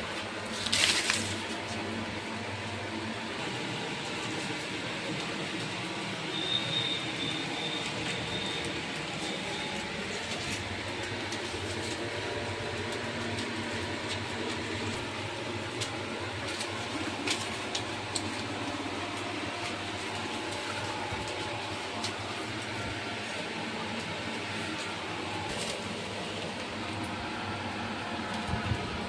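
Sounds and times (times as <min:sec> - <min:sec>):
mechanical whir with hum: 0:00.0 - 0:29.0.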